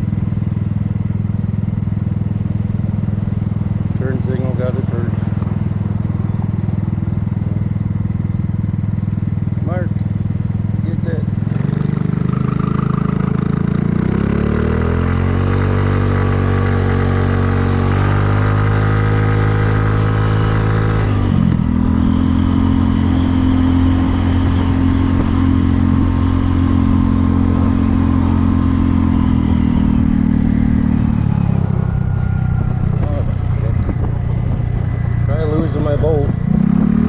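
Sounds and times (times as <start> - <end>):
scooter engine accelerating: 0.0 - 37.0.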